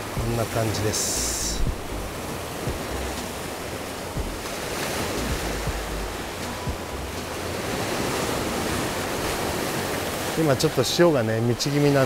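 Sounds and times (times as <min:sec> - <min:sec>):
wind buffeting microphone: 0:00.0 - 0:10.2
waves washing over rocks: 0:00.0 - 0:12.0.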